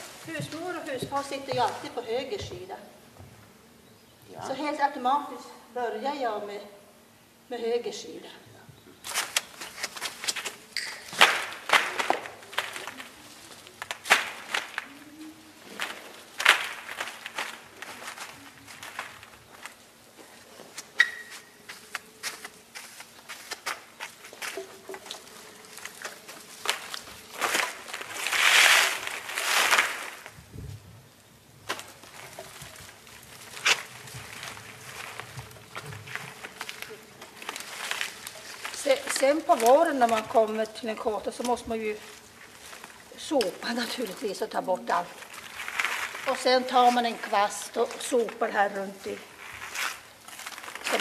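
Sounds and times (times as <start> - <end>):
dry twigs crackling and snapping: 9.0 - 30.5, 31.6 - 51.0.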